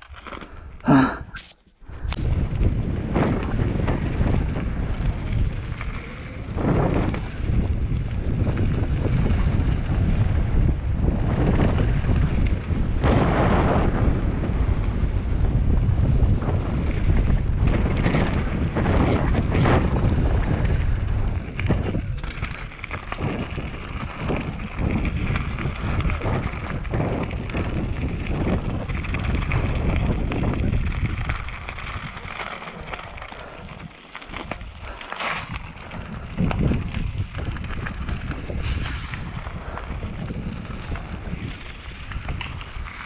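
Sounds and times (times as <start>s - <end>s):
bike tyres crunching over gravel: 0.0s - 43.0s
wind buffeting microphone: 1.8s - 43.0s.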